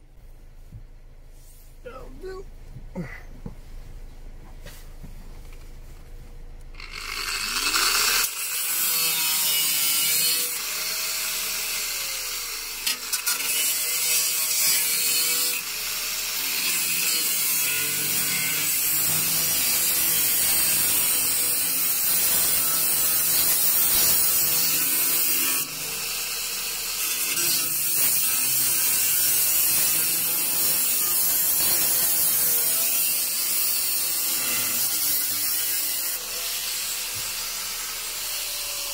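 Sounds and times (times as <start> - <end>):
angle grinder cutting sheet steel: 6.8 - 38.9.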